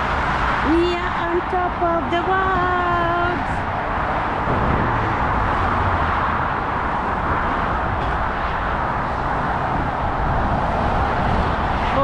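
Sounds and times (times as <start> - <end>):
motorway traffic rushing: 0.0 - 12.0.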